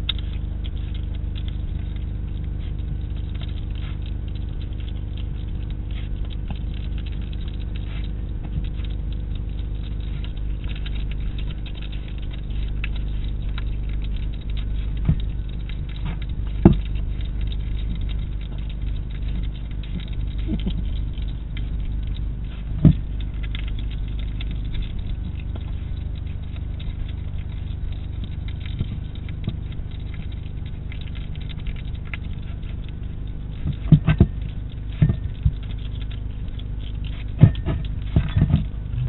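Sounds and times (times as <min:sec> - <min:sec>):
hedgehog chewing: 0:00.0 - 0:39.0
steady low hum: 0:00.0 - 0:39.0.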